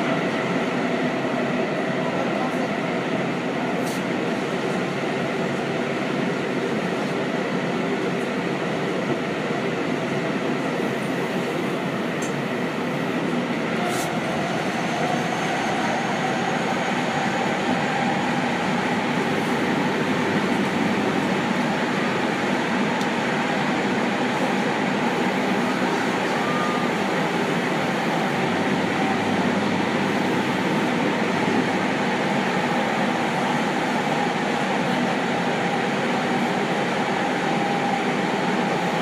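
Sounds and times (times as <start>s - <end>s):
train wheels rumbling in tunnel: 0.0s - 39.0s.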